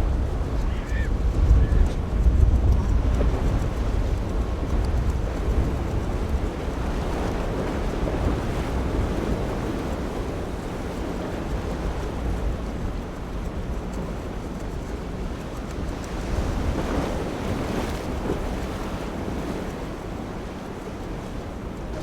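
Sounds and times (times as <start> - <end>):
waves and rushing water: 0.0 - 22.0
wind buffeting microphone: 0.0 - 22.0.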